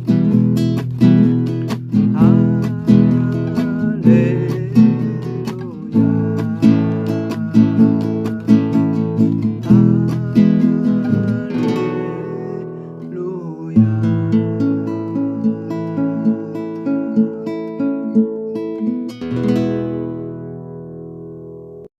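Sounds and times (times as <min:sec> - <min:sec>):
acoustic guitar music: 0:00.0 - 0:21.9.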